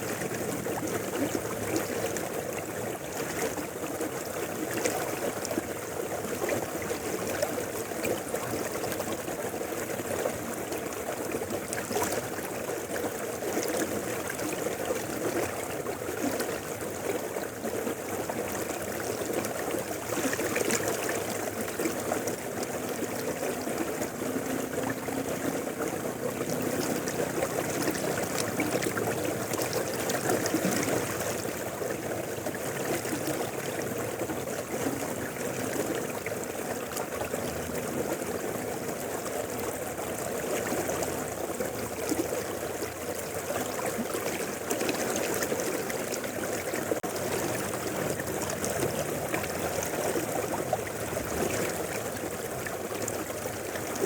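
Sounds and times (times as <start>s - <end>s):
river water rushing: 0.0s - 54.0s
small water splashes: 0.0s - 54.0s.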